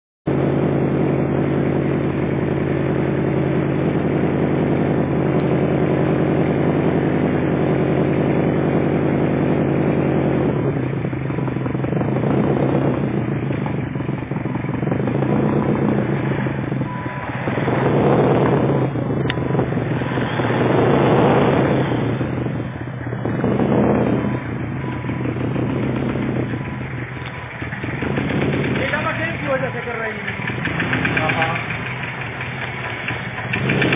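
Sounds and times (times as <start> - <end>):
car engine idling and revving: 0.3 - 33.9.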